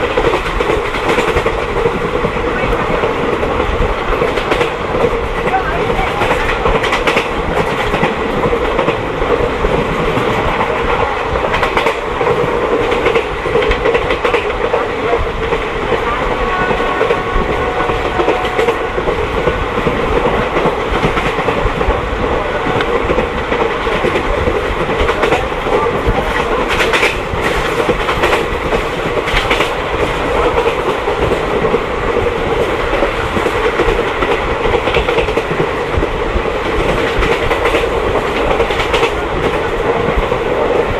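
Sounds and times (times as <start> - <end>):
clickety-clack of rail joints: 0.0 - 40.9
train wheels rumbling on rails: 0.0 - 40.9.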